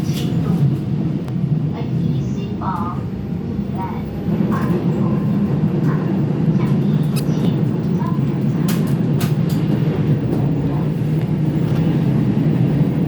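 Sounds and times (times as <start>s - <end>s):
train rumbling on tracks: 0.0s - 13.0s.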